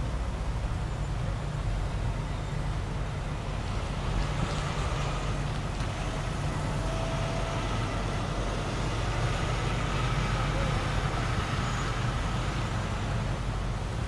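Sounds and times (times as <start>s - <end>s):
truck diesel engine passing: 0.0s - 14.0s.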